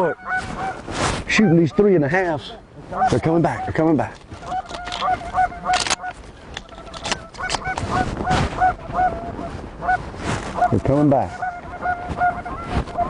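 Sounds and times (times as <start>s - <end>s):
geese honking in flight: 0.0s - 1.9s, 2.8s - 13.0s.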